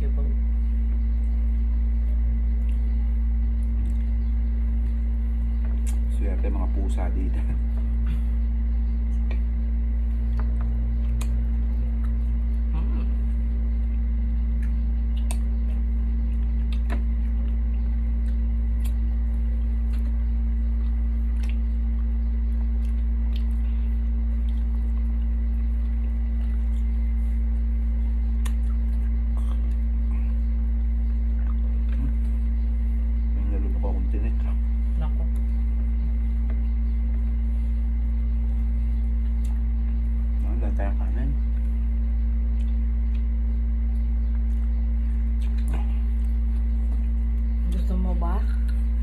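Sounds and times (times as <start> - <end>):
loud steady low hum: 0.0 - 49.0
people eating with their hands: 0.0 - 49.0.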